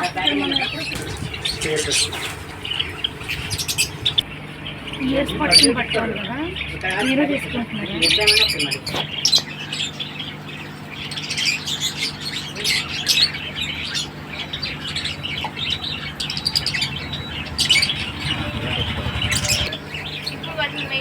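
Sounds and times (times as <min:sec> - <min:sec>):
small birds chirping and squawking: 0:00.0 - 0:21.0.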